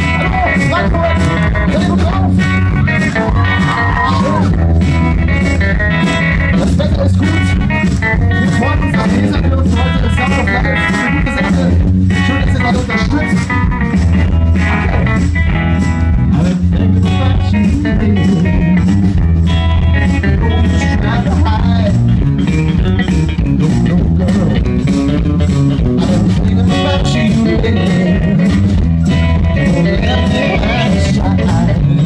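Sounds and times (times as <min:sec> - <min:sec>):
live pop-rock band playing: 0:00.0 - 0:32.0.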